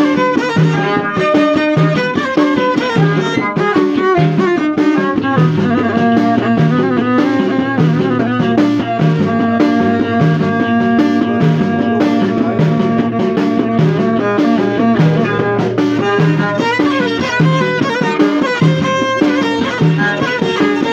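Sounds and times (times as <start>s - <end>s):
plucked strings: 0.0s - 20.9s
steady beat: 0.0s - 20.9s
violin: 0.0s - 20.9s.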